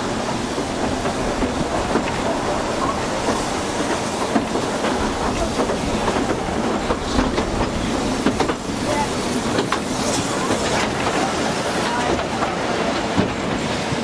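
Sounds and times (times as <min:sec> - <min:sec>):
train rumbling in motion: 0:00.0 - 0:14.0
wheels clicking over rail joints: 0:00.0 - 0:14.0.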